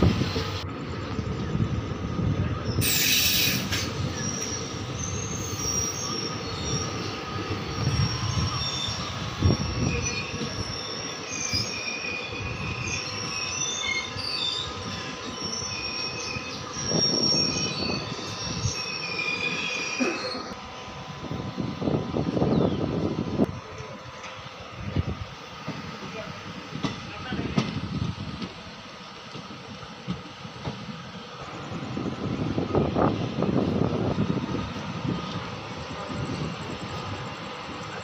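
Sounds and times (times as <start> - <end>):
train coaches rumbling: 0.0 - 38.0
train wheels squealing on rails: 0.0 - 38.0.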